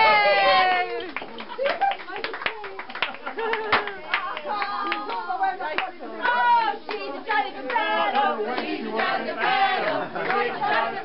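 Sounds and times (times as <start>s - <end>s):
people clapping: 0.0s - 11.0s.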